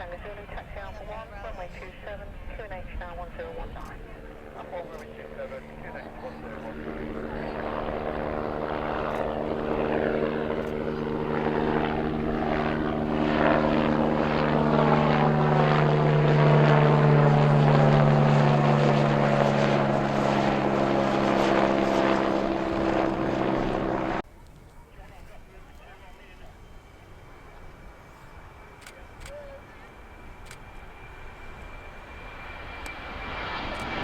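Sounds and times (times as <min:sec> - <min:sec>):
aircraft engines humming: 0:00.0 - 0:34.0.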